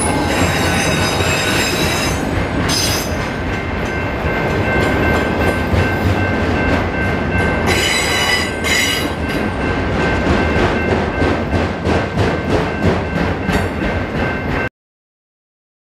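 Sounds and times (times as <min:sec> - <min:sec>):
train wheels clacking: 0:00.0 - 0:14.7.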